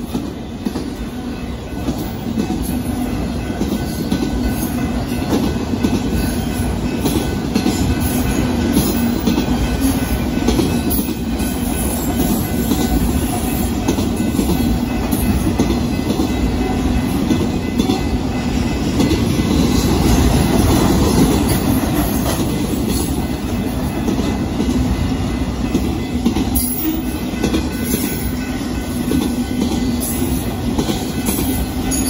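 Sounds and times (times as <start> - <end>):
steel wheels rumbling on rails: 0.0 - 32.0.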